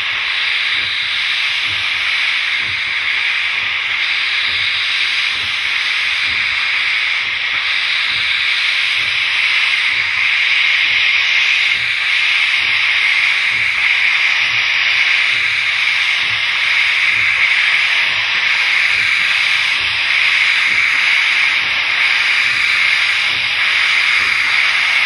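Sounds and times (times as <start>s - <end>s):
steam hissing from locomotive: 0.0s - 25.0s.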